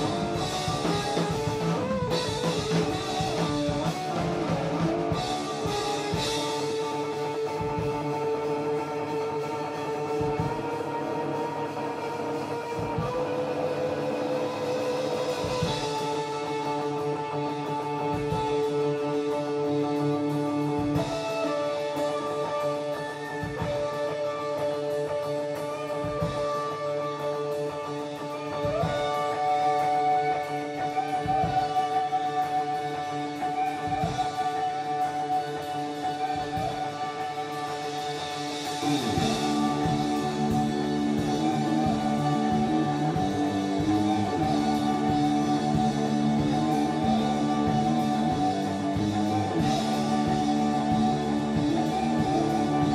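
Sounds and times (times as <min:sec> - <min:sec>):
electric guitar sustained notes: 0:00.0 - 0:52.9.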